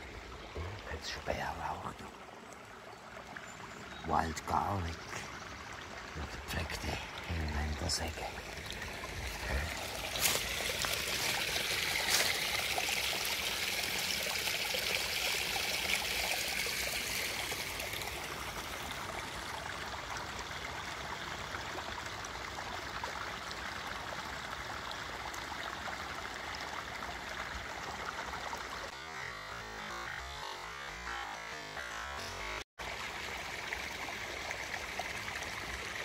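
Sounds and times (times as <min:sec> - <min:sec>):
forest stream trickling: 0:00.0 - 0:36.0.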